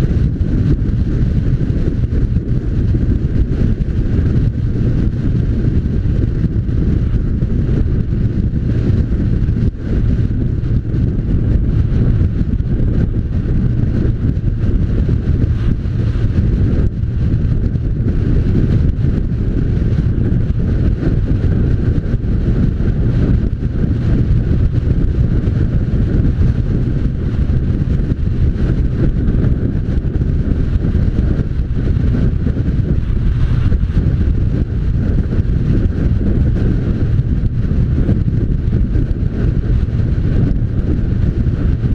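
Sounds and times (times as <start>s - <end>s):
motorcycle engine: 0.0s - 41.9s
wind buffeting microphone: 0.0s - 41.9s.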